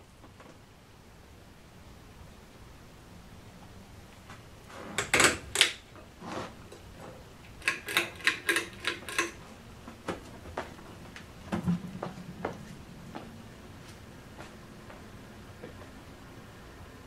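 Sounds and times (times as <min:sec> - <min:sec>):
fan motor hum: 0:00.0 - 0:17.0.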